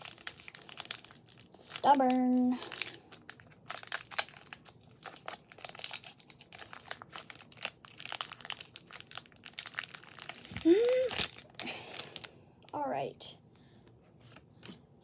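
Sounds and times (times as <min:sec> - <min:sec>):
foil wrapper crinkling: 0:00.0 - 0:12.3.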